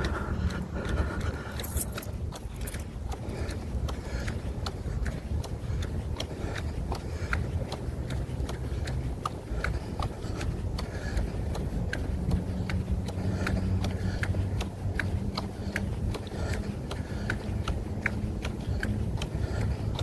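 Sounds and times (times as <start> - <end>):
jogging footsteps: 0.0 - 20.0
low steady rumble: 0.0 - 20.0.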